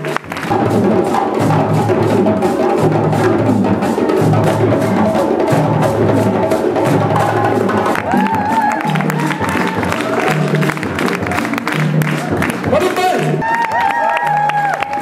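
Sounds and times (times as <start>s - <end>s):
djembe drums: 0.0s - 15.0s.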